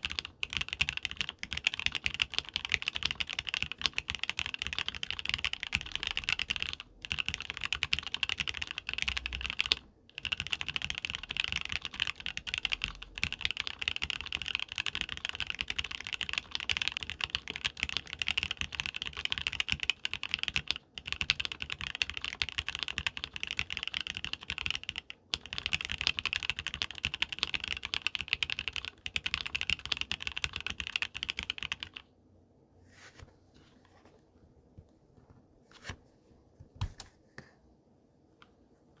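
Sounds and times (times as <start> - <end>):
fast mechanical keyboard typing: 0.0 - 32.0.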